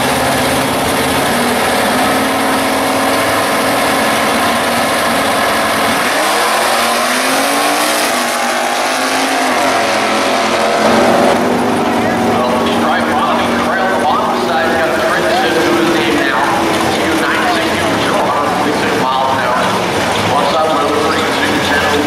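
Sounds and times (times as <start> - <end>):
car engines idling: 0.0 - 22.0
car engines revving and launching: 0.0 - 22.0.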